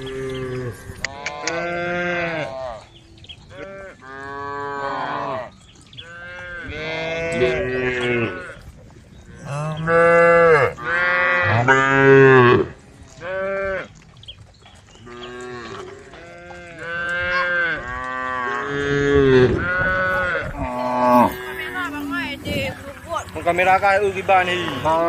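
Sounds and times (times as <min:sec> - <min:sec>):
cow mooing: 0:00.0 - 0:02.9, 0:03.5 - 0:08.6, 0:09.4 - 0:13.9, 0:15.0 - 0:25.0.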